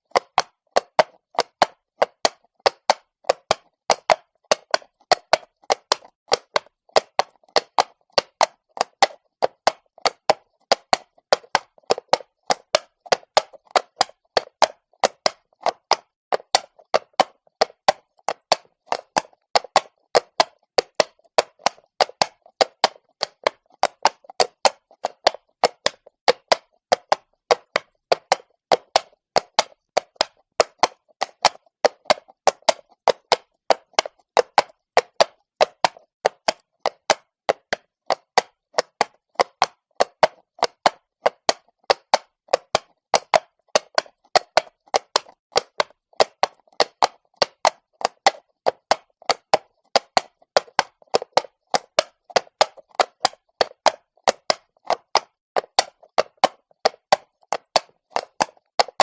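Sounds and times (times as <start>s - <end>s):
horse hooves on cobblestones: 0.1s - 59.0s.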